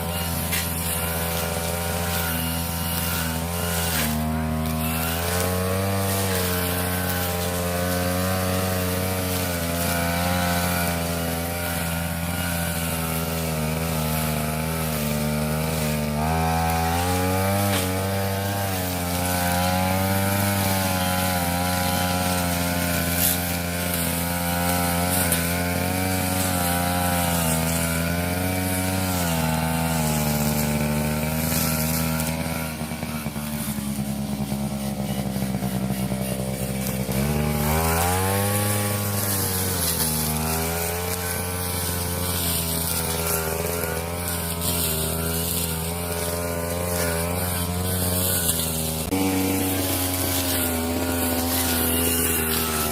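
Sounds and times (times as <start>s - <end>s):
brush cutter engine cutting grass: 0.0s - 52.9s.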